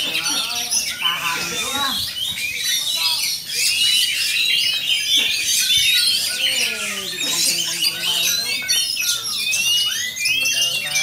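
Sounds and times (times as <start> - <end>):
caged songbirds singing: 0.0 - 11.0.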